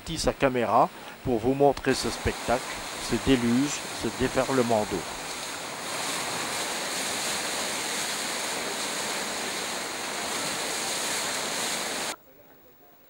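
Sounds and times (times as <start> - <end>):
floodwater rushing: 1.0 - 12.2.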